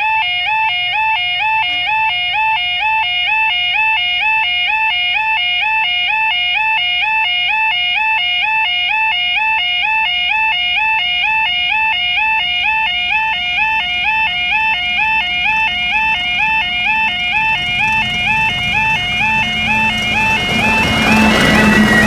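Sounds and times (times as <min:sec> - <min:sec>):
level crossing alarm two-pitch tone: 0:00.0 - 0:22.0.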